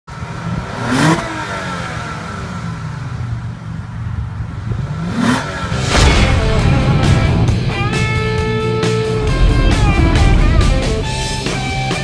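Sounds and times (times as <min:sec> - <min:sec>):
engine throttle blips: 0:00.1 - 0:12.0
car engine idling: 0:01.7 - 0:12.0.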